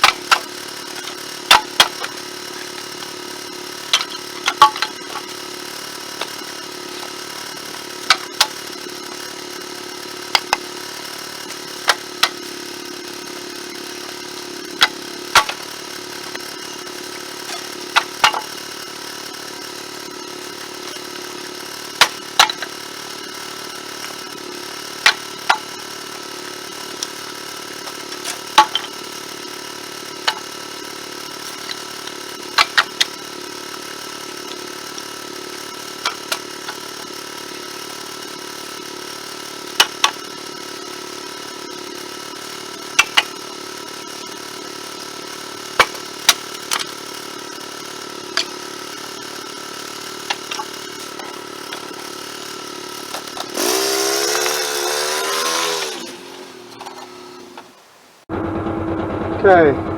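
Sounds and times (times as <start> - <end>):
sharp clicks and knocks: 0.0 - 37.8, 39.7 - 40.3, 42.9 - 43.6, 45.3 - 57.7
engine idling and revving: 0.0 - 57.7, 58.3 - 59.9.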